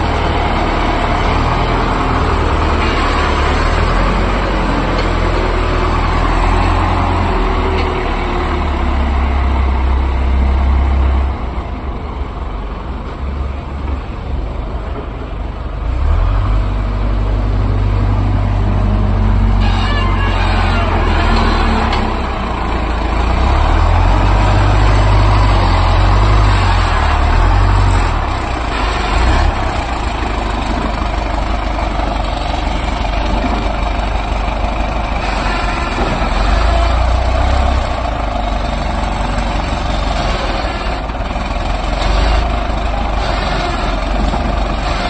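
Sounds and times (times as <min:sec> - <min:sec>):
sawmill machinery noise: 0:00.0 - 0:11.0, 0:17.8 - 0:45.0
deep engine rumble: 0:00.0 - 0:45.0.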